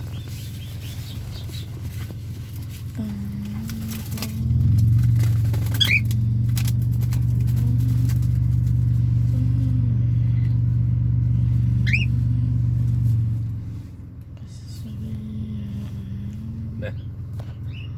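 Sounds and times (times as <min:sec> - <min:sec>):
low motor hum: 0:00.0 - 0:17.9.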